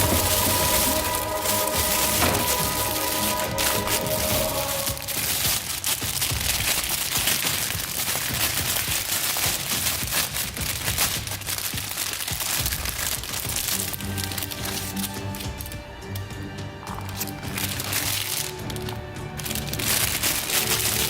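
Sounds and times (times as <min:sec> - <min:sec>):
dense crackling and crinkling: 0:00.0 - 0:21.0.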